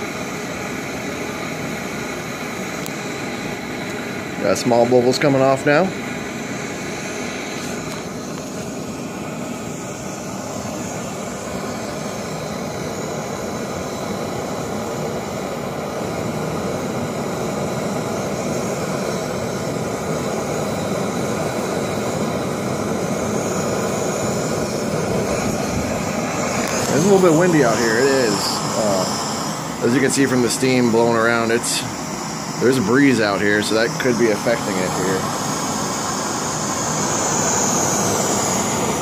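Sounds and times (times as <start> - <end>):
gas stove roaring hiss: 0.0 - 39.0.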